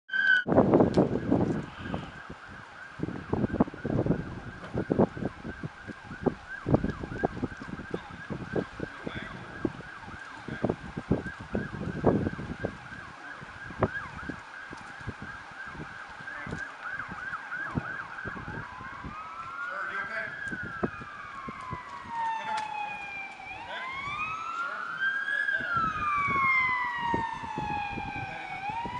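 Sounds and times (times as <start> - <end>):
siren steady high tone: 0.1 - 28.9
siren wail: 0.1 - 28.9.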